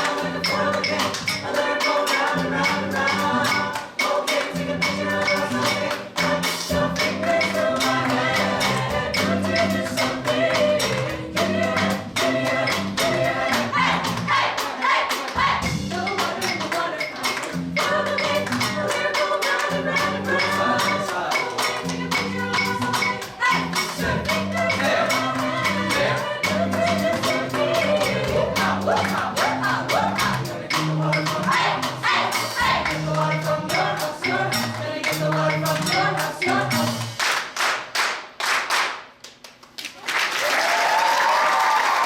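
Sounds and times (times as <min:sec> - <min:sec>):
choir singing in harmony: 0:00.0 - 0:37.2
fast percussion beat: 0:00.0 - 0:38.4.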